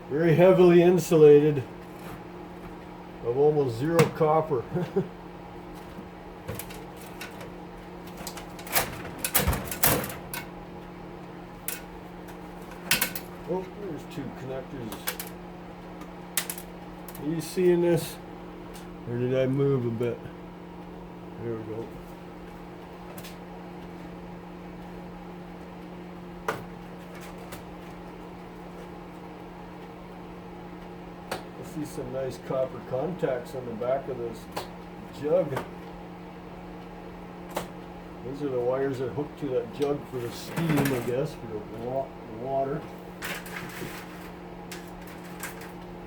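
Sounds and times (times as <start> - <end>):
blower fan humming: 0.0 - 46.0.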